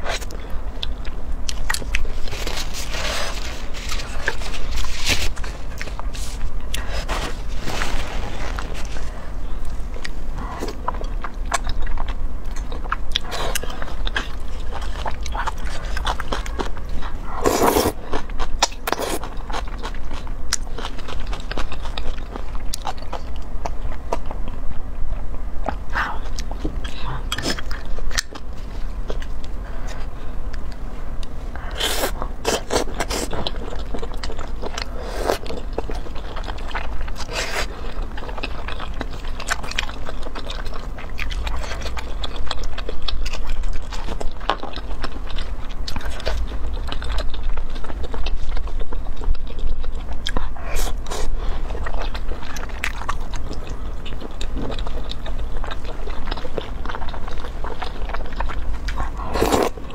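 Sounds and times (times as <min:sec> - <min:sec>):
wet chewing and biting: 0:00.0 - 0:24.8, 0:25.6 - 0:59.9.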